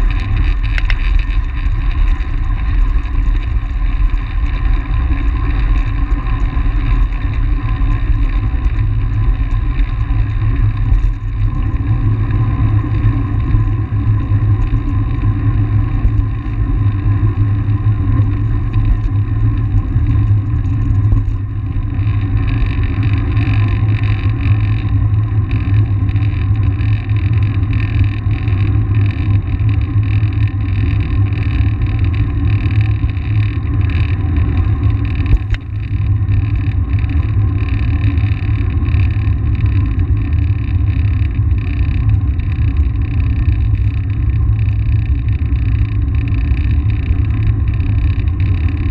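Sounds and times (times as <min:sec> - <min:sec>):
bicycle rolling noise: 0:00.0 - 0:48.9
wind rumbling on microphone: 0:00.0 - 0:48.9.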